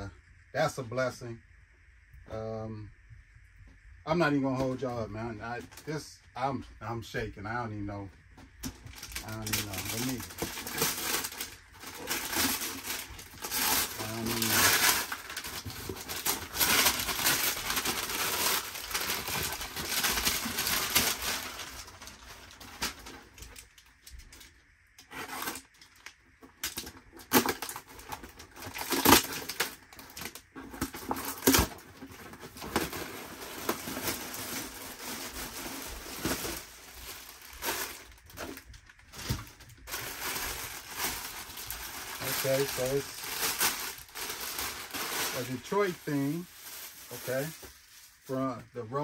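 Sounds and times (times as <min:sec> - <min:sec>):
paper packaging rustling: 0:08.6 - 0:48.5.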